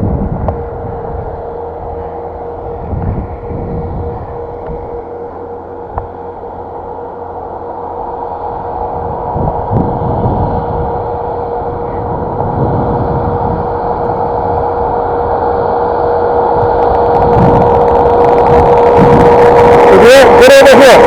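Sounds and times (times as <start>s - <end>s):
vehicle engine rumble with whine: 0.0s - 21.0s.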